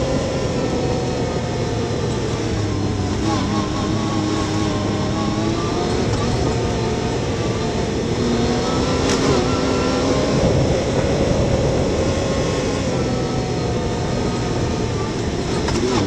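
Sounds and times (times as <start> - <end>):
three-cylinder engine running: 0.0 - 16.0.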